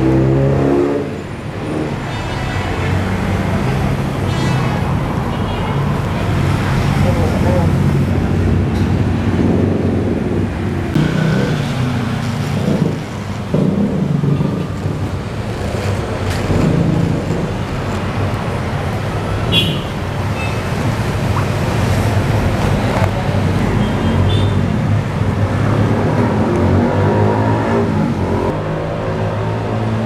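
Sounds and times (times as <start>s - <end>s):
road traffic engines passing: 0.0s - 30.0s.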